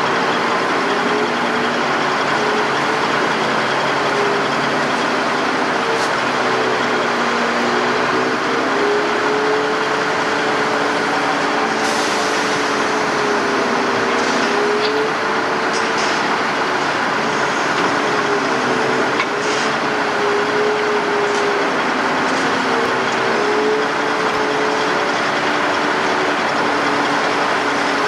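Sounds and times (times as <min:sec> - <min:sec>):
heavy machinery engine: 0:00.0 - 0:28.0.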